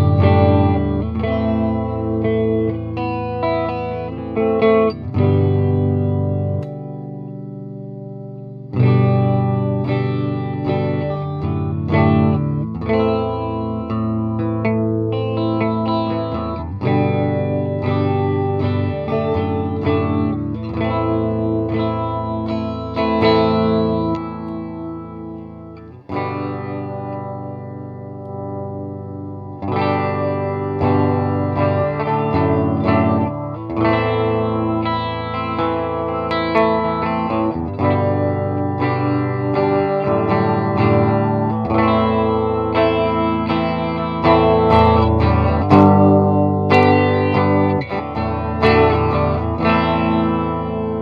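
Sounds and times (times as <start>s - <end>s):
electric guitar chords: 0.0s - 51.0s.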